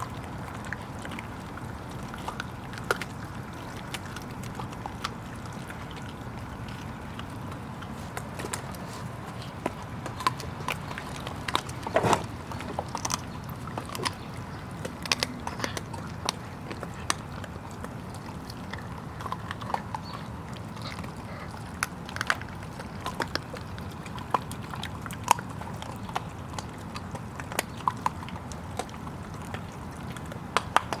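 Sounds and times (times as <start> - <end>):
puppies' claws clicking and tapping: 0.0 - 31.0.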